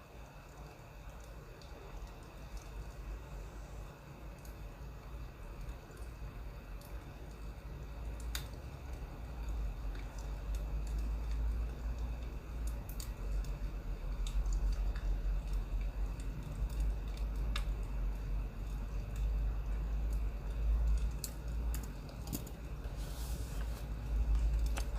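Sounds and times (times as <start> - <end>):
firewood crackling and popping: 4.3 - 24.9.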